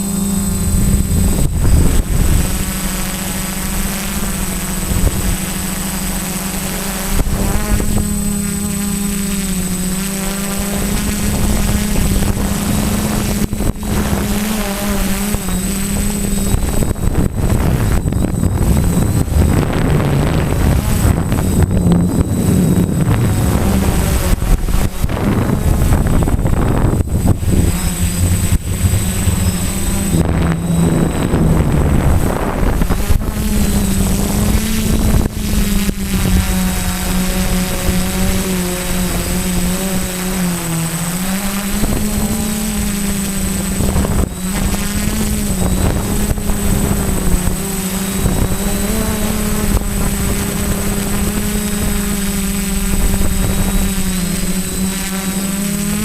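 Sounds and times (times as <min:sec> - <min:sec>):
drone propellers humming: 0:00.0 - 0:56.0
wind noise on microphone: 0:00.0 - 0:56.0.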